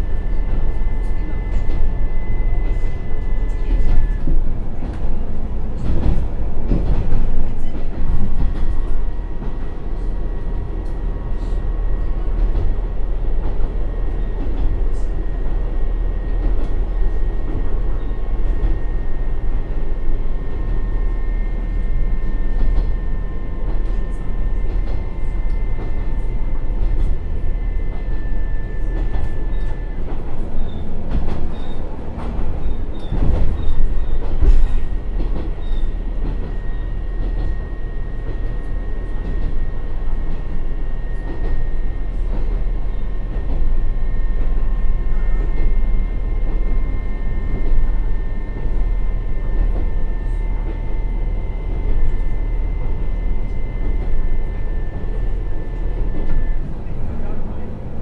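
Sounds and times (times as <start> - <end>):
railcar engine and wheels rumbling: 0.0 - 58.0.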